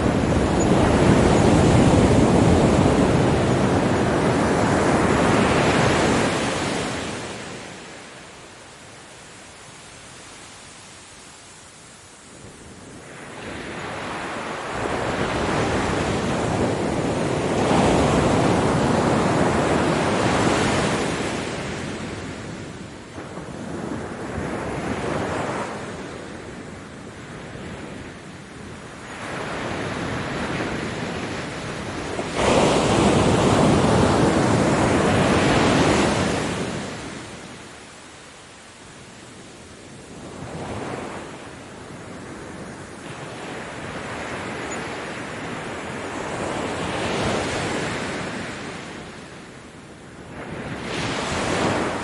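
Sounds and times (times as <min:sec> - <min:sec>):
ocean surf washing onto beach: 0:00.0 - 0:52.0.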